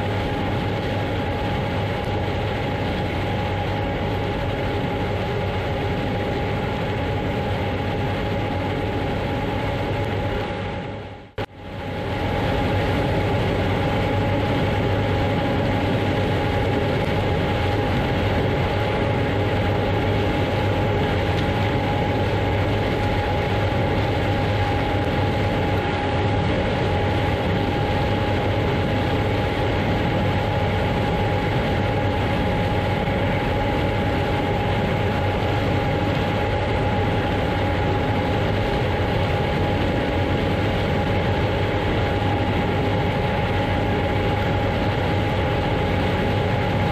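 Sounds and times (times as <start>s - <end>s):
deep engine drone: 0.0s - 46.9s
thin steady whine: 0.0s - 46.9s.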